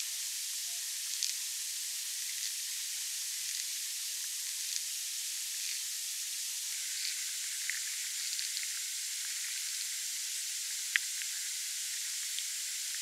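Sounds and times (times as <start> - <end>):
underwater hiss: 0.0 - 13.0.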